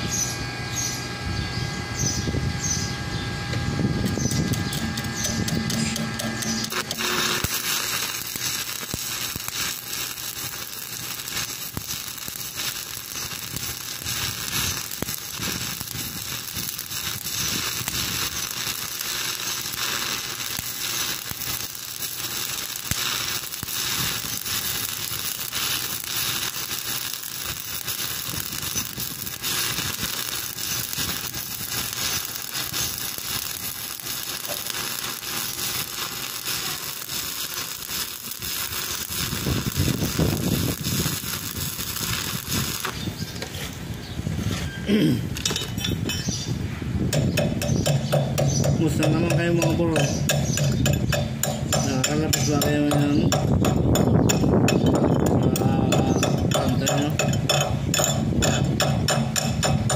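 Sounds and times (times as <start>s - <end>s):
welding arc crackling and sizzling: 3.5s - 44.5s, 45.2s - 59.9s.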